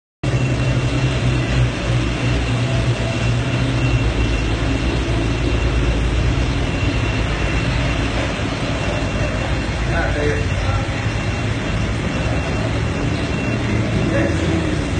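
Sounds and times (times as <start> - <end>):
faint high whine: 0.2 - 14.9
low mechanical rumble and hiss: 0.3 - 14.9.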